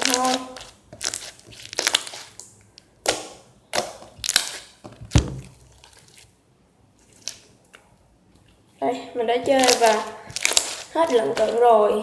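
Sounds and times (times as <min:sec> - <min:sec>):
clay slime squelching: 0:00.0 - 0:12.0.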